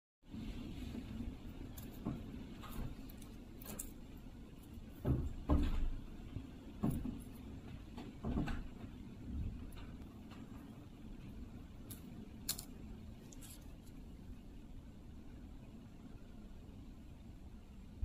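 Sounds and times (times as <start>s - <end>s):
low steady hum: 0.2s - 18.0s.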